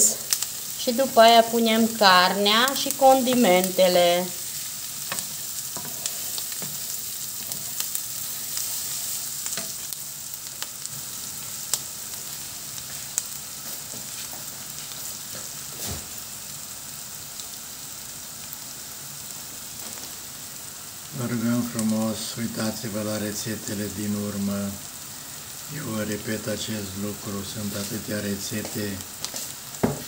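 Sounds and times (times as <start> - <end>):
food sizzling in oil: 0.0 - 30.0.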